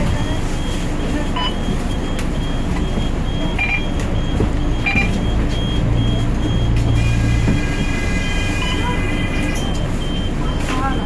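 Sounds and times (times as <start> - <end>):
bus diesel engine drone: 0.0 - 11.0
short high beeps: 1.3 - 11.0.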